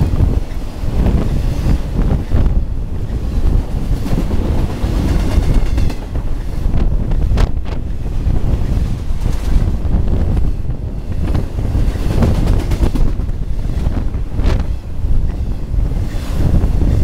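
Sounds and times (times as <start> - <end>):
freight train rumbling past: 0.0 - 17.0
wind buffeting microphone: 0.0 - 17.0.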